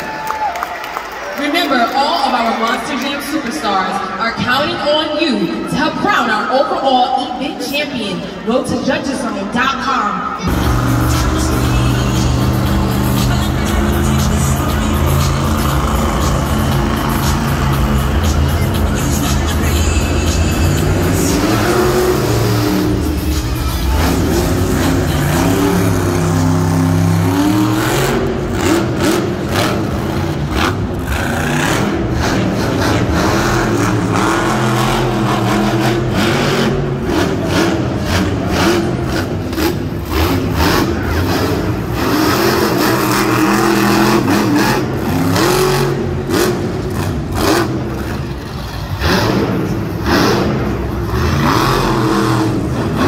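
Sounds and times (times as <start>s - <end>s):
monster truck engine revving: 10.2s - 53.0s.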